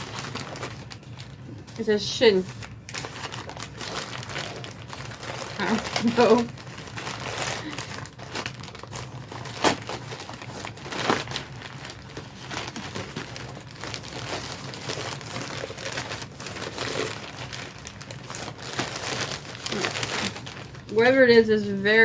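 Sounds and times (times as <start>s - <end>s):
packing material crinkling: 0.0s - 22.0s.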